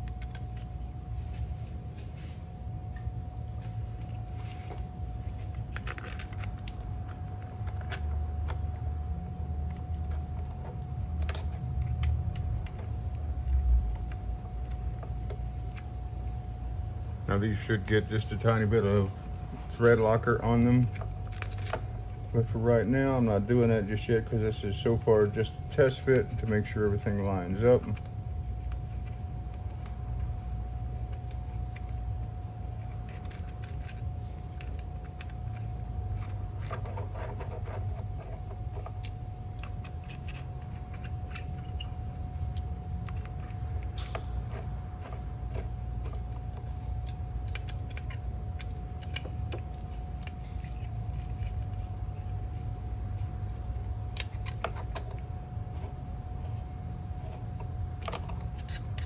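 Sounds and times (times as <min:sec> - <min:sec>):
faint whine: 0:00.0 - 0:59.0
low hum: 0:00.0 - 0:59.0.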